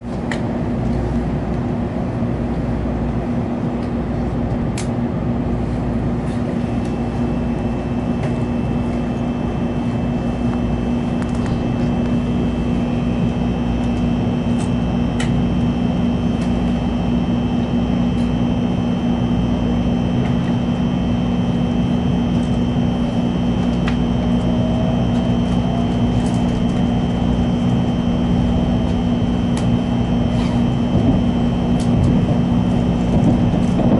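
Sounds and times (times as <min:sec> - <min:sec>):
train low hum: 0:00.0 - 0:33.9
faint rising whine: 0:06.7 - 0:33.9.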